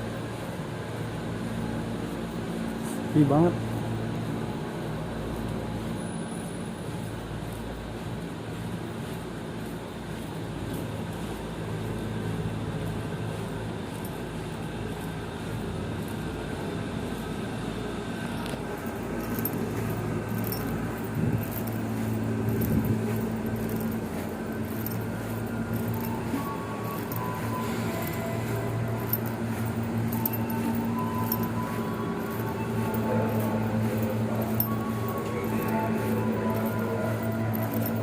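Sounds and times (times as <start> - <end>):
train interior rumble and hum: 0.0 - 38.0.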